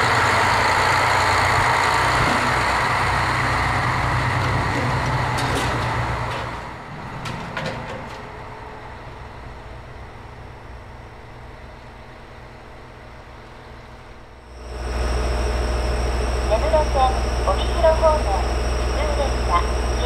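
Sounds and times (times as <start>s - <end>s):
railcar engine hum: 0.0s - 20.0s.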